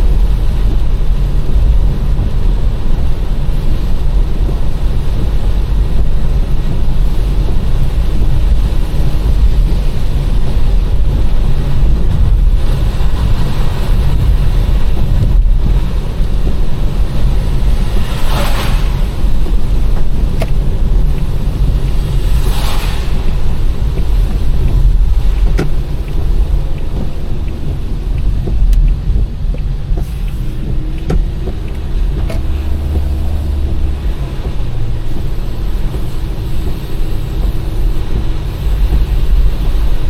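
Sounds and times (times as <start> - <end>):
car driving on wet road: 0.0 - 40.0
tyre hissing on wet road: 0.0 - 40.0.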